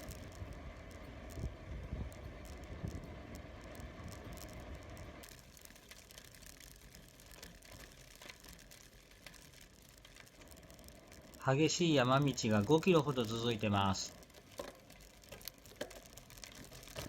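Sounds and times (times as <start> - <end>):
bicycle tyre rumble: 0.0 - 17.0
bike and luggage rattling: 0.0 - 17.0.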